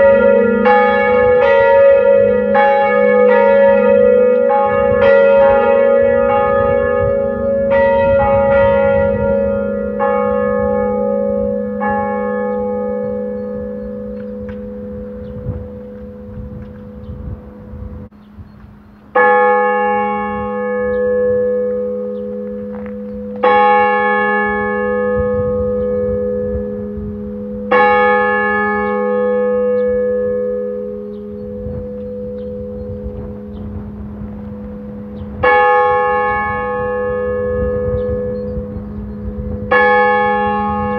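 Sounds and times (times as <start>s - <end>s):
church bell tolling: 0.0s - 17.8s, 19.2s - 40.9s.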